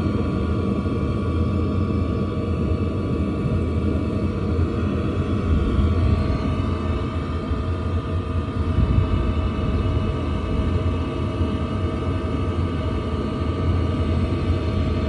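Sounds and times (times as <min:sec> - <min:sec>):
heater low rumble: 0:00.0 - 0:15.0
high whine: 0:00.0 - 0:15.0.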